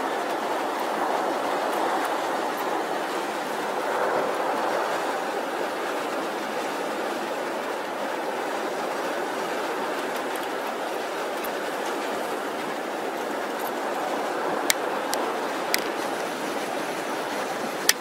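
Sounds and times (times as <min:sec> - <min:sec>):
surf breaking on sandy beach: 0:00.0 - 0:18.0.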